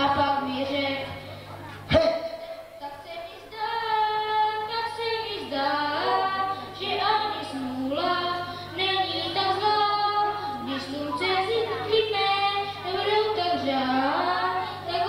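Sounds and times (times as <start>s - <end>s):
child singing into microphone: 0.0s - 1.2s, 1.9s - 15.0s
faint low hum: 0.0s - 15.0s.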